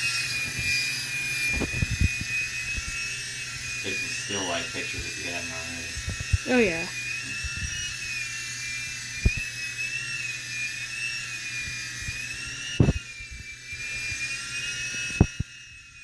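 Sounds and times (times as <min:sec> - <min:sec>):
toy helicopter motor whining: 0:00.0 - 0:16.0.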